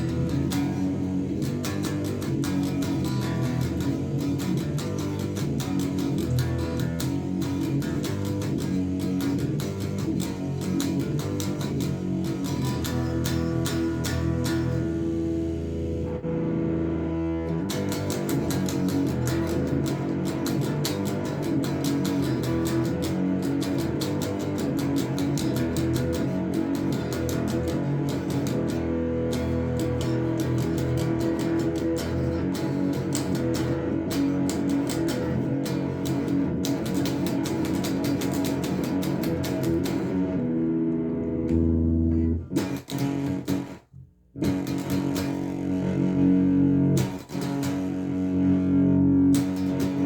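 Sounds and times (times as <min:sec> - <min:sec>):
distant fuzz electric guitar solo: 0:00.0 - 0:43.8, 0:44.4 - 0:50.0.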